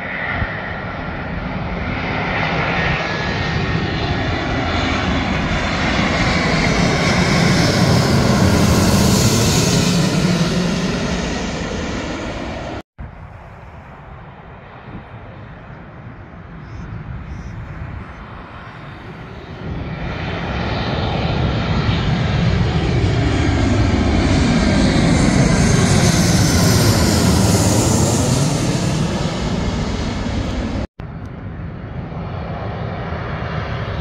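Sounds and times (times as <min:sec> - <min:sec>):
jet airliner flying overhead: 0:00.0 - 0:34.0.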